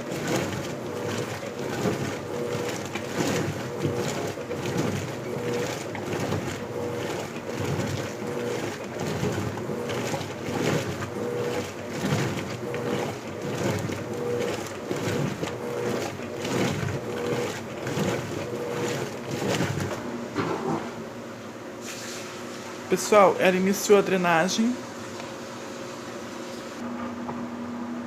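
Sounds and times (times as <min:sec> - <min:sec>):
agitator swishing clothes and water: 0:00.0 - 0:20.1, 0:21.8 - 0:26.8
washing machine motor humming: 0:00.0 - 0:21.4, 0:22.5 - 0:28.0.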